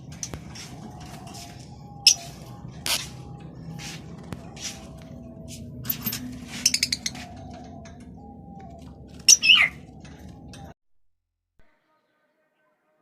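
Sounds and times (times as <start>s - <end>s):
cage birds chirping: 0.0s - 10.8s.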